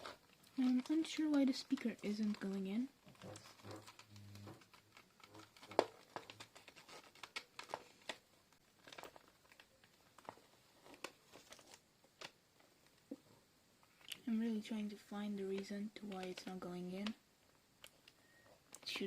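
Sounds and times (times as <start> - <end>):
plastic parts clicking and crinkling: 0.0 - 13.2, 13.8 - 19.0.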